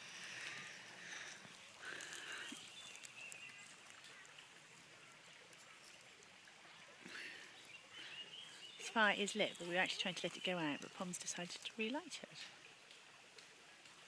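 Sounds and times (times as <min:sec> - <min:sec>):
small stream hissing: 0:00.0 - 0:14.0.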